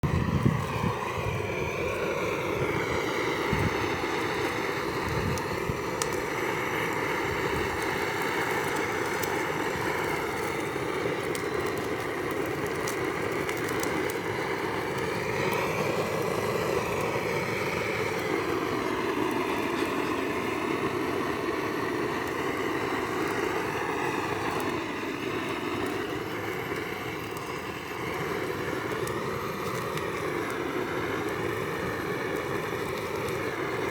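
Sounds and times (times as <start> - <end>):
gas torch flame rushing: 0.0 - 33.9
light crackles: 0.0 - 33.9.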